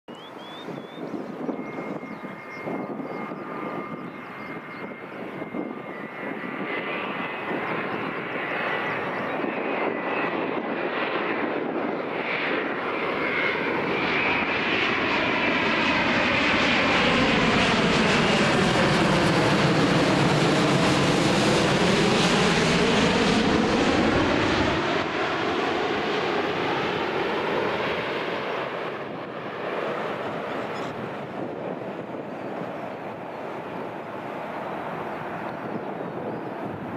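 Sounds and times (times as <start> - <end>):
jet airliner passing overhead: 0.1 - 36.9.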